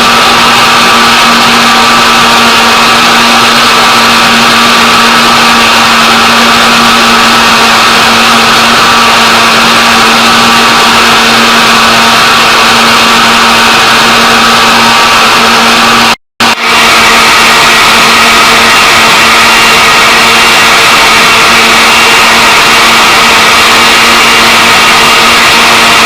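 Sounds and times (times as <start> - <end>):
electric blender running: 0.0 - 26.0.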